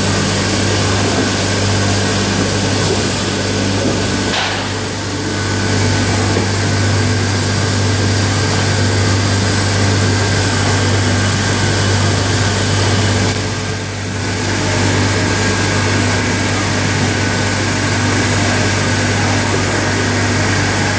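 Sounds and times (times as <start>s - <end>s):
machine humming with high whines: 0.0s - 20.9s.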